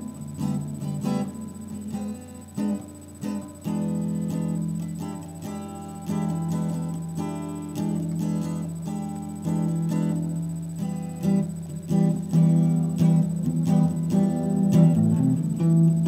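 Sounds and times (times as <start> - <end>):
electric guitar picked notes: 0.0 - 16.0.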